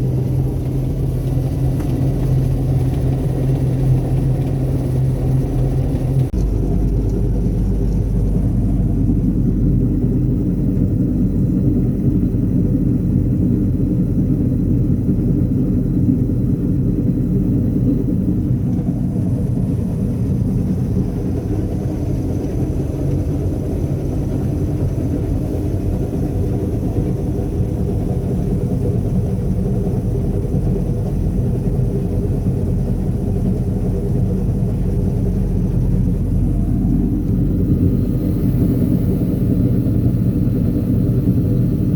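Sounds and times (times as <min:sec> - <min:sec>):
low engine rumble: 0:00.0 - 0:41.9.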